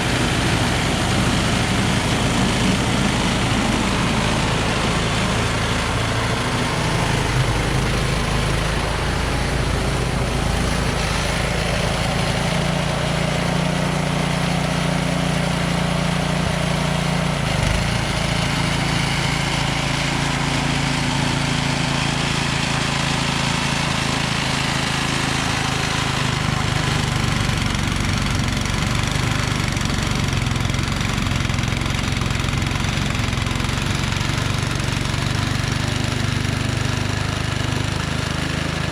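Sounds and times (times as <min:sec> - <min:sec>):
snow-clearing machine engine: 0:00.0 - 0:38.9.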